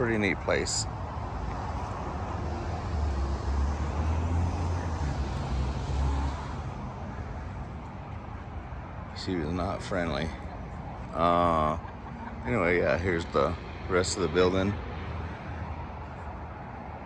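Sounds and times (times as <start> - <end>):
town traffic noise: 0.0 - 17.0
vehicle passing: 0.0 - 17.0.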